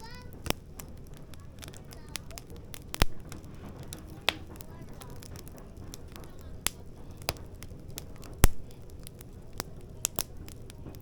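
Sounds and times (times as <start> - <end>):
firewood crackling and popping: 0.0 - 11.0
low rush of flames: 0.0 - 11.0.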